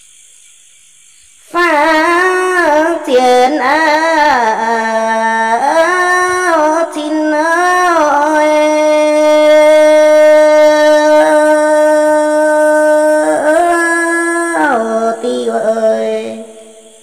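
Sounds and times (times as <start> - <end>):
woman singing unaccompanied: 1.5 - 17.0.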